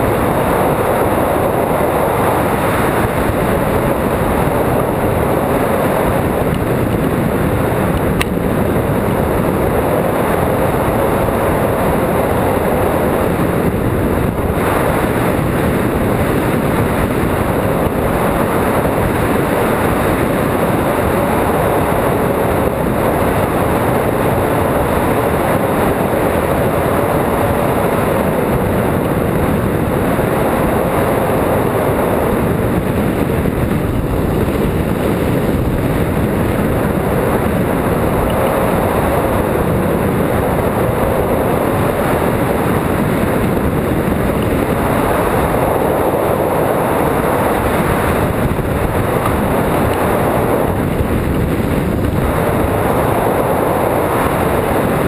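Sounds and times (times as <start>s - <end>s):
air rush buffeting microphone: 0.0s - 55.0s.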